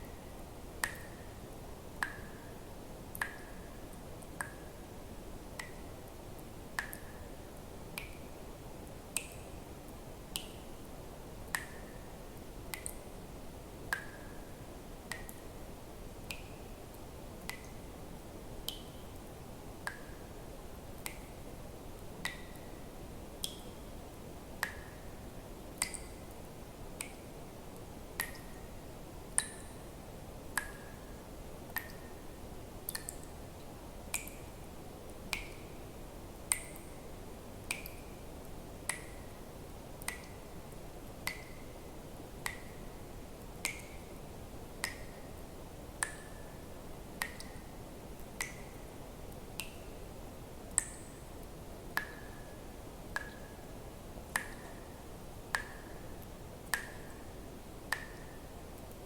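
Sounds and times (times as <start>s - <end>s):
faint background hiss: 0.0s - 59.0s.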